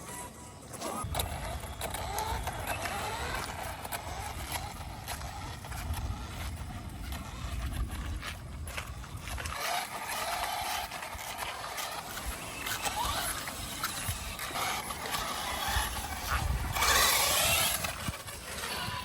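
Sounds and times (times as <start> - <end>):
rc car motor whine: 0.0 - 19.0.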